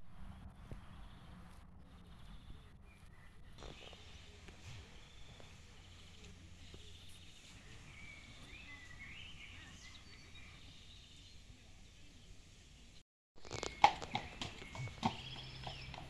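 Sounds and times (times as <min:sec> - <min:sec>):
small birds chirping: 0:00.3 - 0:16.0.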